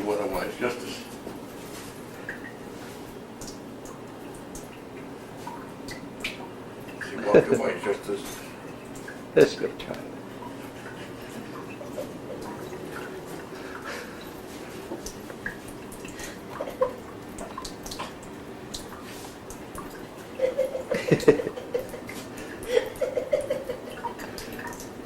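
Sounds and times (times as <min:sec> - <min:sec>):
water dripping: 0:00.0 - 0:25.0.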